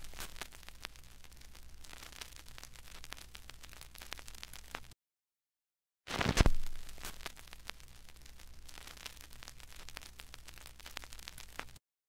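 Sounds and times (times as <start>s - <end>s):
stylus dropping onto a record: 0.0s - 4.9s, 6.1s - 11.8s
vinyl crackle and pops: 0.0s - 5.0s, 6.1s - 11.8s.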